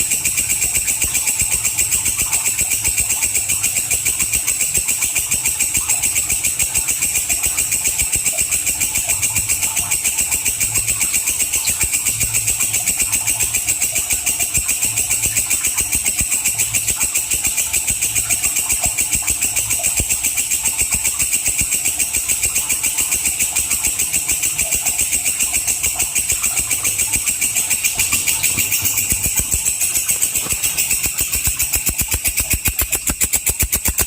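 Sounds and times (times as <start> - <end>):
katydid stridulating: 0.0 - 34.0.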